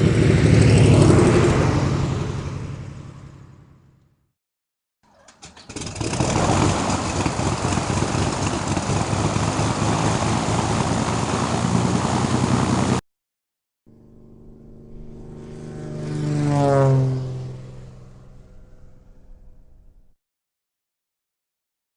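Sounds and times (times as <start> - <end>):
aircraft engine sputtering and running: 0.0 - 4.2, 5.1 - 13.0, 13.9 - 20.2
aircraft passing by: 0.0 - 4.2, 5.5 - 13.0, 13.9 - 20.2.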